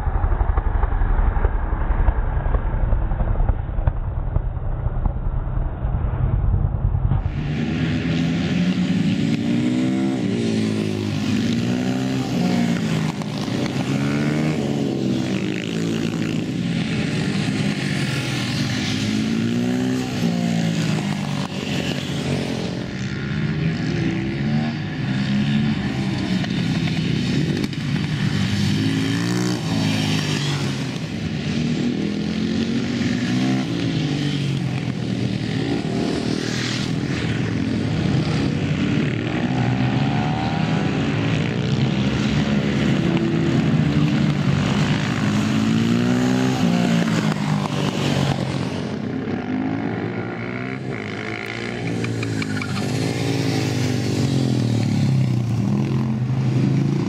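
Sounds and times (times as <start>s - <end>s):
motorcycle engines revving: 6.9s - 57.0s.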